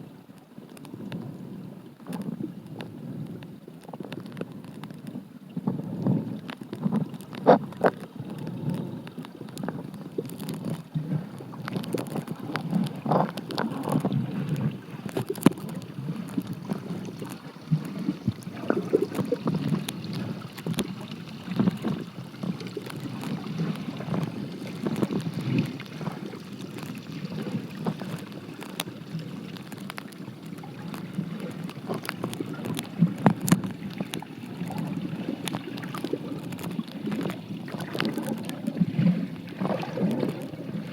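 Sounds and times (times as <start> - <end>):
water bubbling: 4.2 - 40.9
clicks and pops: 6.4 - 40.6.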